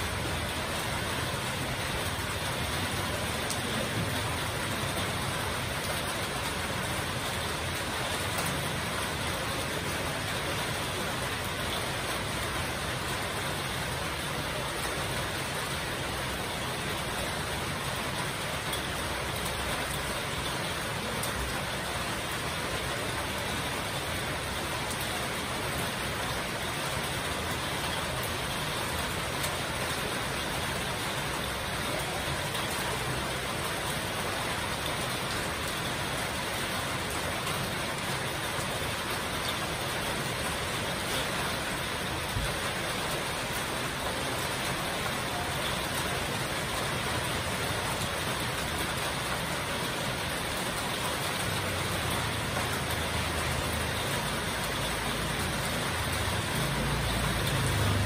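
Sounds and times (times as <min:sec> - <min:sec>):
heavy rain on metal roofs: 0:00.0 - 0:58.0.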